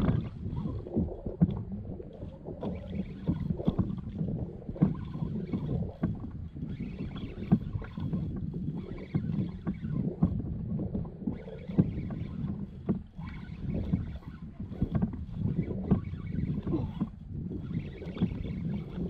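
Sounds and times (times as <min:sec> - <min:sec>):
water lapping against hull: 0:00.0 - 0:19.0.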